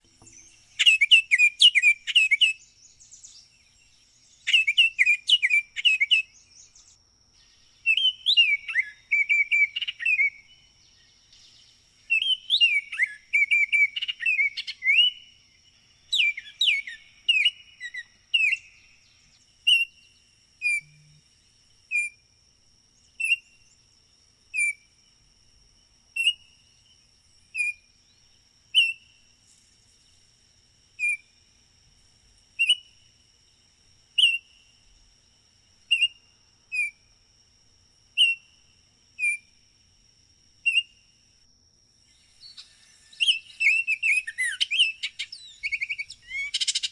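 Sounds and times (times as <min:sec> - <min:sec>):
bird singing whistled notes: 0:00.0 - 0:22.3, 0:23.0 - 0:25.0, 0:26.1 - 0:30.2, 0:31.0 - 0:31.6, 0:32.6 - 0:33.0, 0:34.1 - 0:34.9, 0:35.8 - 0:37.1, 0:38.2 - 0:39.6, 0:40.6 - 0:41.1, 0:42.0 - 0:46.9.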